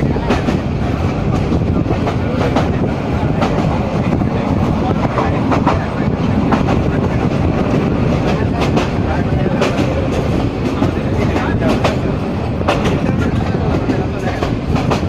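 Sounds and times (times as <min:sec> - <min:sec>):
train wheels clacking: 0:00.0 - 0:15.0
train wheels rumbling: 0:00.0 - 0:15.0.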